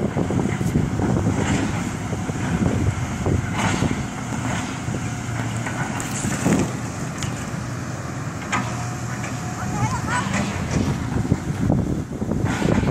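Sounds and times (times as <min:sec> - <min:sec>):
excavator diesel engine under load: 0:00.0 - 0:12.9.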